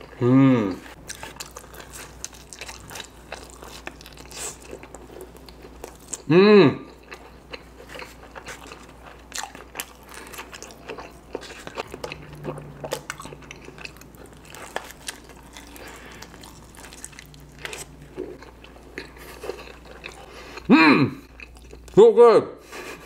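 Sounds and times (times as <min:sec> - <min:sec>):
person chewing pizza: 0:00.0 - 0:22.0.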